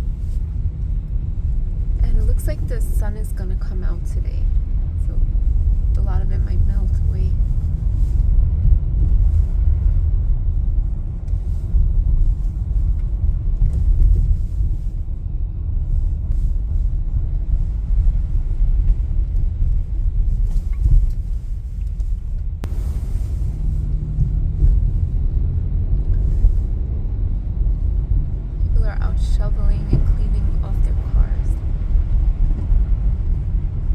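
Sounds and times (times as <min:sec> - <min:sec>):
car engine and tyre rumble: 0:00.0 - 0:33.9
faint steady hum: 0:00.0 - 0:33.9.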